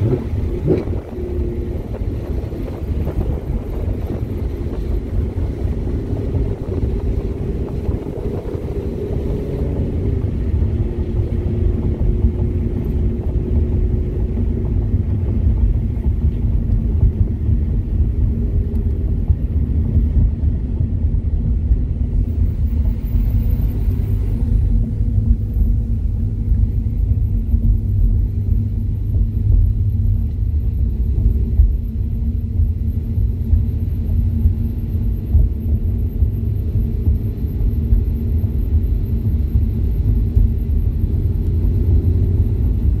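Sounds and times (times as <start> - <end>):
road noise inside car: 0.0 - 43.0.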